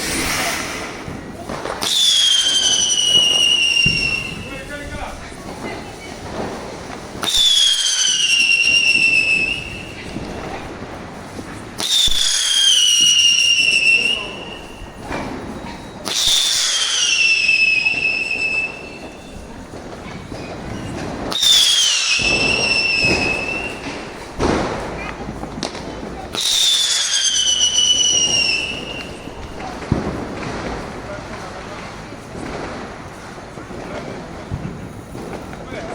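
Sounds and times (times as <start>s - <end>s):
hissing rush: 0.0s - 34.2s
firecrackers whistling down in pitch: 0.0s - 35.9s.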